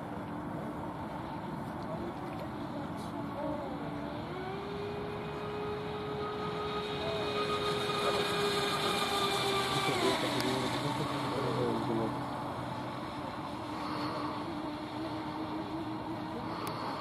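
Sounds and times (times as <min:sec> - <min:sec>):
rc speedboat motor whine: 0:00.6 - 0:17.0.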